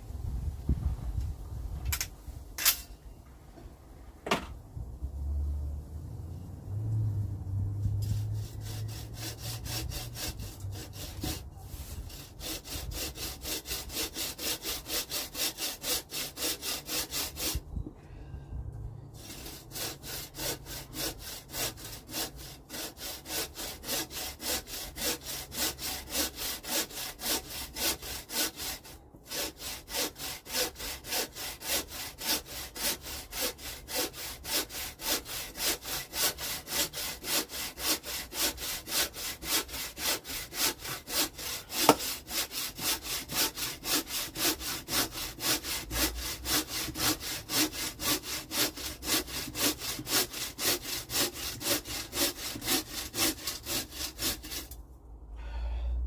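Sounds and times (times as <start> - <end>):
hand saw cutting branch: 7.8 - 17.6, 19.2 - 54.8.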